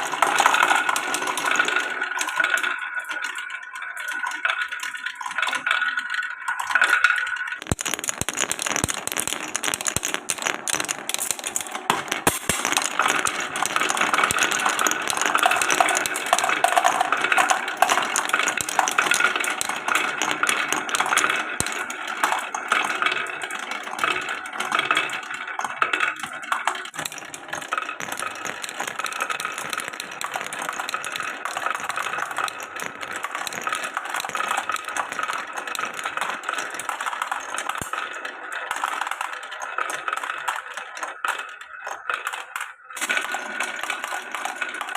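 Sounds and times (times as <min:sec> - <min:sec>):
marbles rattling down wooden run: 0:00.0 - 0:44.9.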